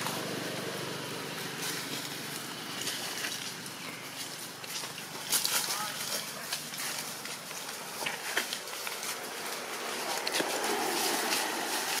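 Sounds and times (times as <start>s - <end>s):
dry leaves crackling underfoot: 0.0s - 12.0s
steady outdoor hiss: 0.0s - 12.0s.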